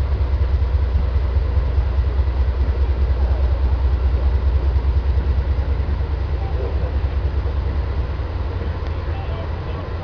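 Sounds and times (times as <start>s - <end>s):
train rumbling over bridge: 0.0s - 10.0s.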